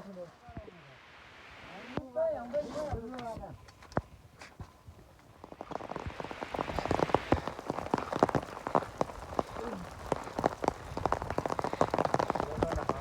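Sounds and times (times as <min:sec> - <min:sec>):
rain drops striking: 0:00.5 - 0:02.2, 0:02.9 - 0:13.0.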